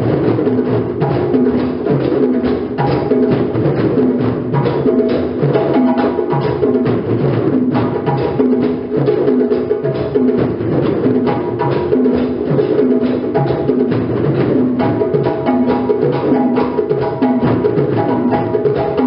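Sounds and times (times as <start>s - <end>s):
djembe drums rhythm: 0.0s - 19.0s.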